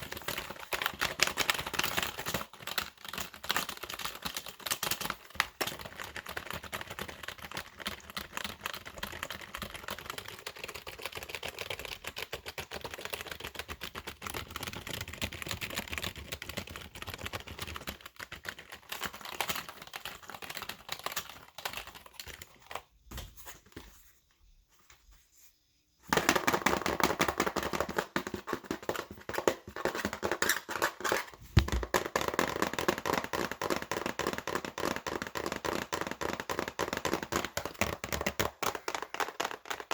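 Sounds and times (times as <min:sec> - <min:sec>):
fast typing on keyboard: 0:00.0 - 0:22.9, 0:26.1 - 0:39.9.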